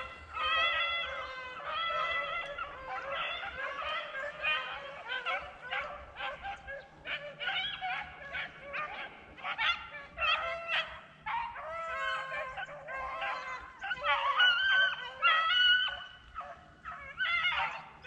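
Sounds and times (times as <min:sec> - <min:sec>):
dogs baying and barking: 0:00.0 - 0:18.0.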